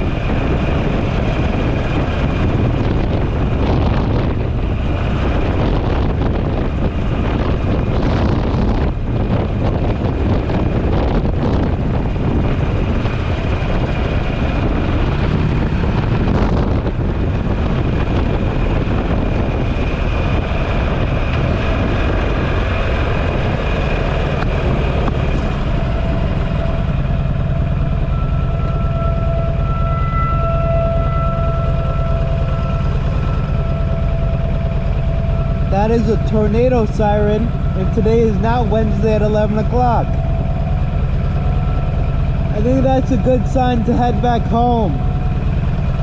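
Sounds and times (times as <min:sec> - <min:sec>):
motorcycle engine running: 0:00.0 - 0:46.0
steady tones: 0:00.0 - 0:46.0
wind on microphone: 0:00.0 - 0:46.0.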